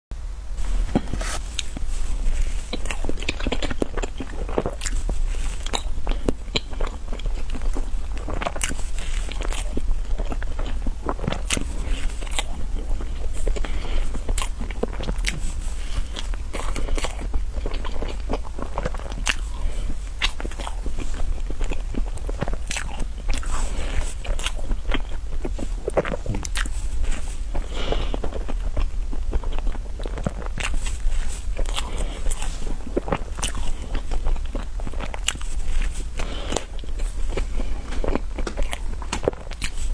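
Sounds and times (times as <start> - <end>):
biting and chewing: 0.6 - 39.9.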